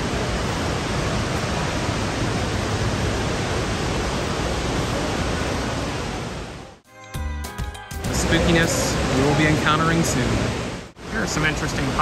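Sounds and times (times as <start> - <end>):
indoor waterfall rushing: 0.0 - 6.8, 8.1 - 12.0.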